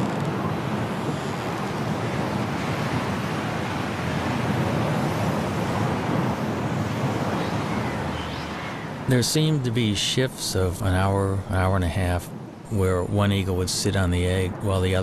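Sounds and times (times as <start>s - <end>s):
wind blowing through treetops: 0.0s - 15.0s.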